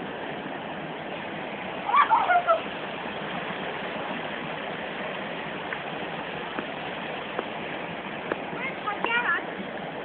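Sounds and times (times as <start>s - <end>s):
river flowing over rocks: 0.0s - 10.0s.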